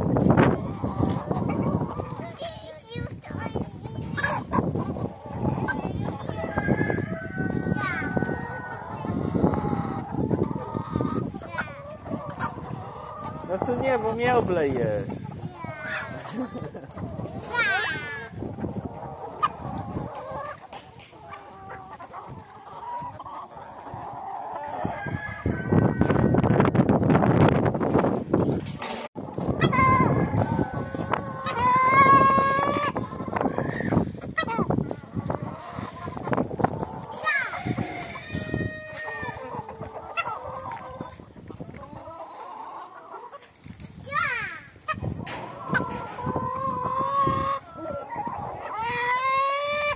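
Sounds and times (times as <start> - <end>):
hens and roosters clucking: 0.0 - 49.9.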